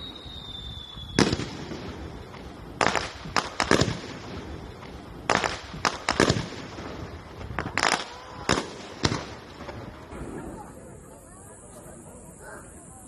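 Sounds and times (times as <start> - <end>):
firework shells bursting: 0.0 - 10.7.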